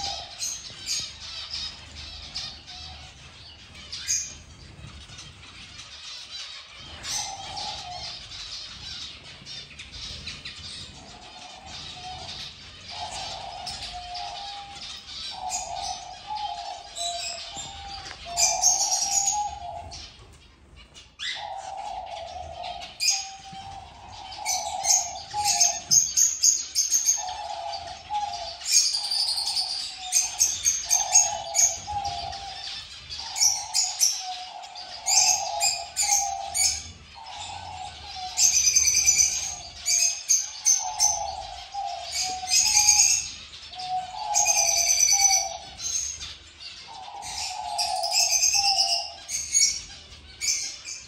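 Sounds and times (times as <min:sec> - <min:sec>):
dove cooing: 0:00.0 - 0:03.1, 0:06.8 - 0:20.4, 0:21.2 - 0:50.7
birds chirping: 0:00.0 - 0:51.0.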